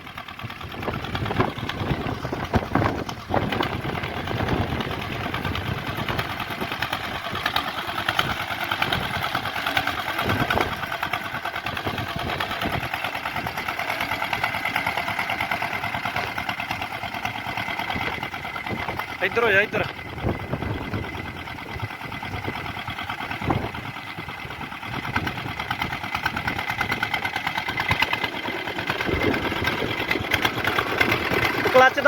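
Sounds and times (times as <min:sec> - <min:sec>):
small tractor engine clattering: 0:00.0 - 0:32.0.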